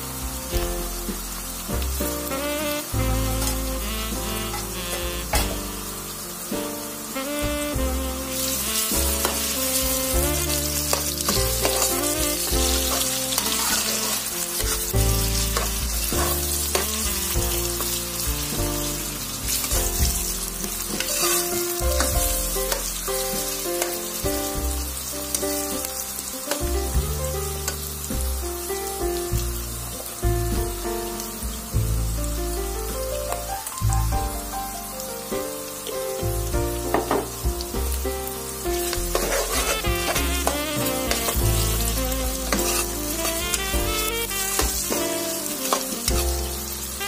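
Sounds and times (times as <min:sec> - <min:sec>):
background music with held notes: 0:00.0 - 0:47.0
meat and onions sizzling in oil: 0:00.0 - 0:47.0.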